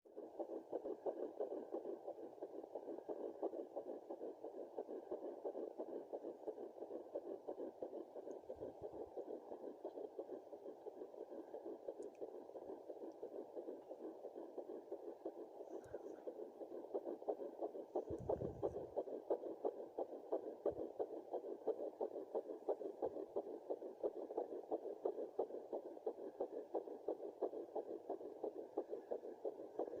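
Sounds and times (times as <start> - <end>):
fetal heartbeat on doppler: 0.1 - 30.0.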